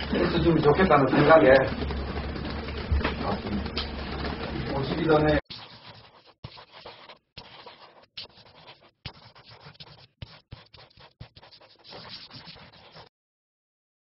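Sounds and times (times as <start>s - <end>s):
continuous scratching: 0.0s - 13.1s.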